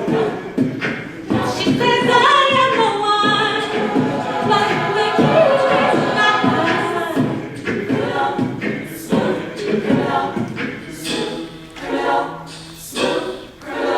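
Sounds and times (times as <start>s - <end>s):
vocal group singing in harmony: 0.0s - 13.9s.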